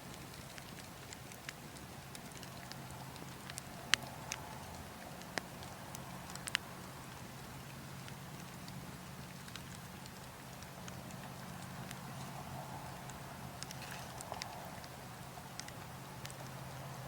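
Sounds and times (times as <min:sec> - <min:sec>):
burning logs crackling: 0:00.0 - 0:17.0
low wind: 0:00.0 - 0:17.0.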